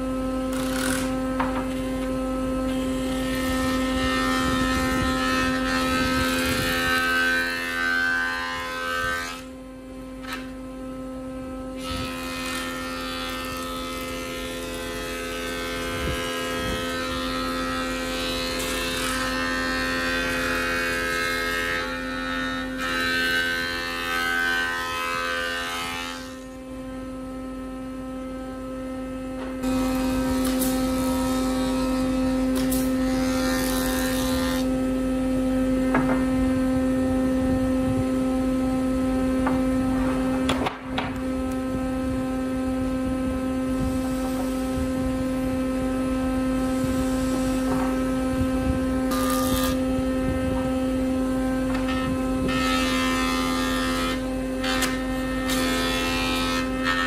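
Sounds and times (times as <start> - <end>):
jointer humming: 0.0 - 57.0.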